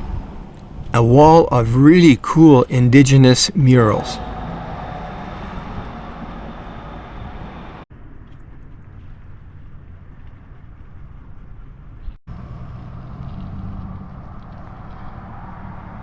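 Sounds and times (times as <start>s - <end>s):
low rumble of vehicle noise: 0.0s - 16.0s.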